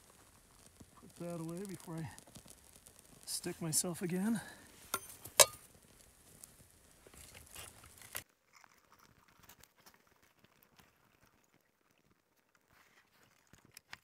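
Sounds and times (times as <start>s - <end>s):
rustling: 0.0s - 11.5s
small flame crackling: 0.0s - 14.0s.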